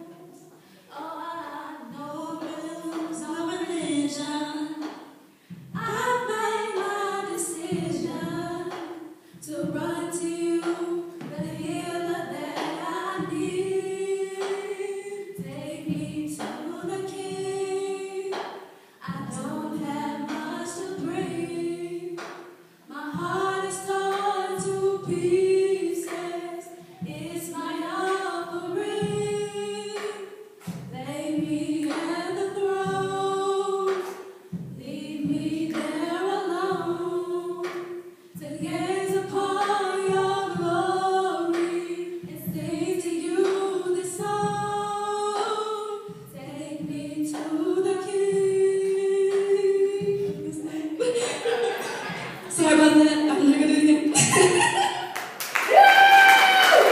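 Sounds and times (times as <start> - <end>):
women singing a cappella: 0.0 - 55.1.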